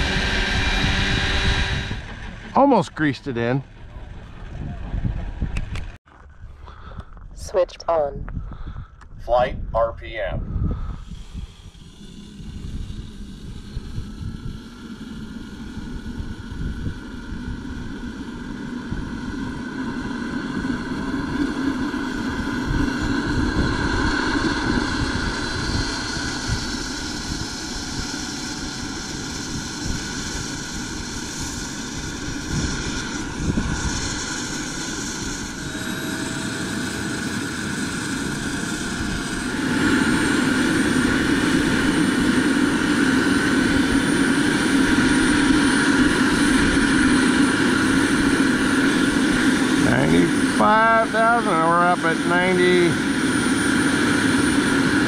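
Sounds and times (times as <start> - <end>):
small gas turbine engine whine: 0.0 - 55.0.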